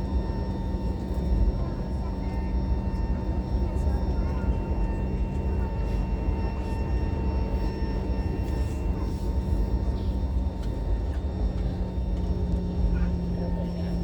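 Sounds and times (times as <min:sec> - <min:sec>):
airliner cabin low rumble: 0:00.0 - 0:14.0.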